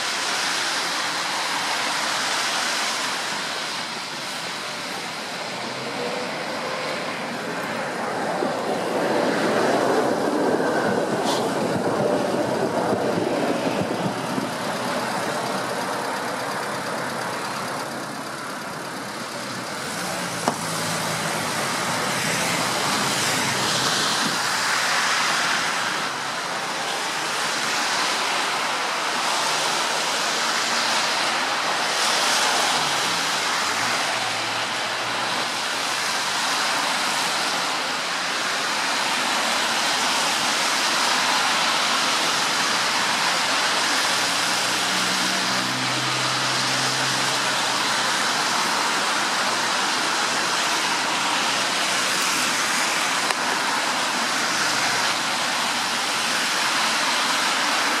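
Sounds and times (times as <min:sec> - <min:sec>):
traffic on wet road: 0:00.0 - 0:58.0.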